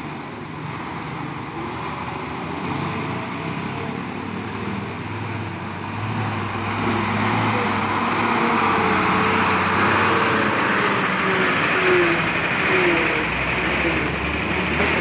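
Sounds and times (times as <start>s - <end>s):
truck engine and tyre noise: 0.0s - 15.0s.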